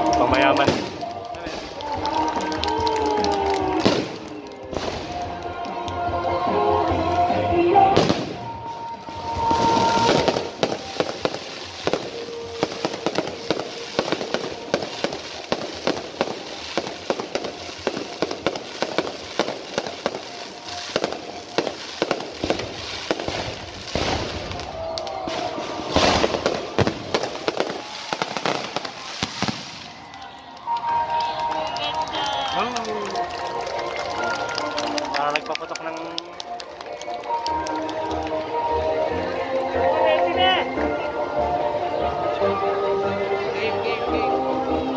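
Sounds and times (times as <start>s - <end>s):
fireworks crackling and popping: 0.0s - 6.4s, 7.0s - 41.0s.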